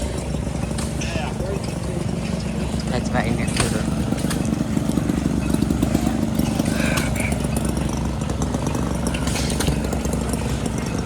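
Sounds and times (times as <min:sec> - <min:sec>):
stationary gas engines running: 0:00.0 - 0:11.0.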